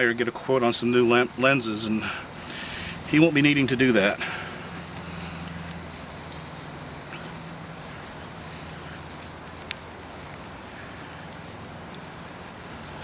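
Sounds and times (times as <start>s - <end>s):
cloth wiping plastic lens: 0.0s - 13.0s.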